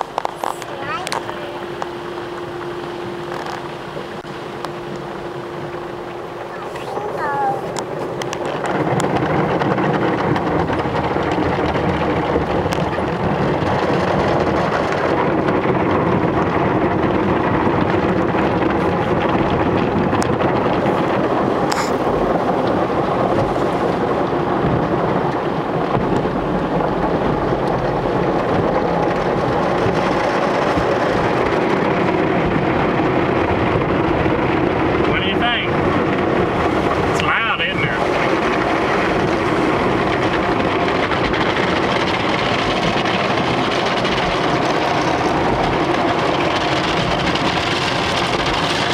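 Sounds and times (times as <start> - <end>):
car wash spraying water: 0.0 - 48.9.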